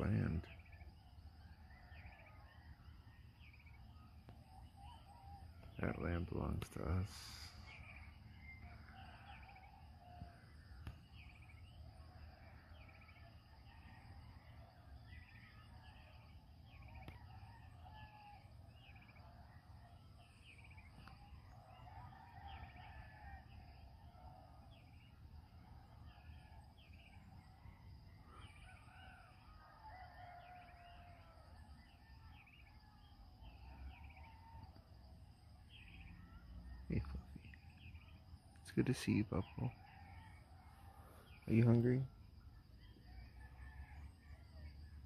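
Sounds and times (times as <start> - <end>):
distant roosters crowing: 0.0 - 45.0
high insect hum: 0.0 - 45.0.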